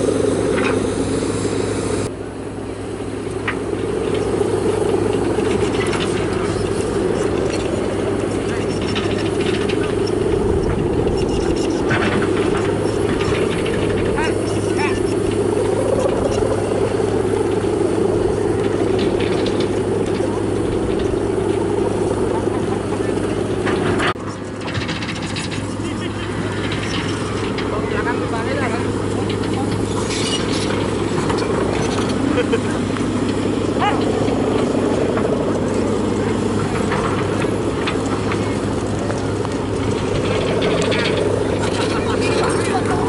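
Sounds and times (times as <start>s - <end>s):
kite hummer droning in wind: 0.0s - 43.0s.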